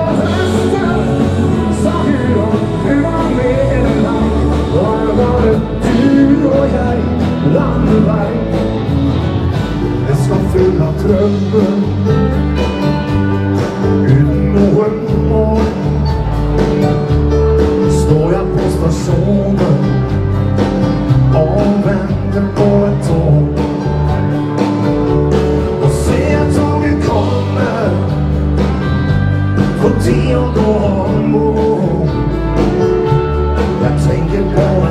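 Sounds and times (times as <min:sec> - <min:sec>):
male lead vocal: 0:00.0 - 0:12.8, 0:13.8 - 0:16.9, 0:17.7 - 0:24.2, 0:25.7 - 0:34.9
drums keeping a beat: 0:00.0 - 0:34.9
live dance band music: 0:00.0 - 0:34.9.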